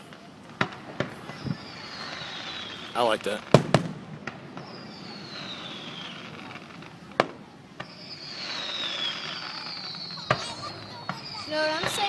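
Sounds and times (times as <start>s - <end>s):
firework bang: 0.0s - 12.0s
firework whistles falling in pitch: 0.1s - 3.9s, 4.5s - 12.0s.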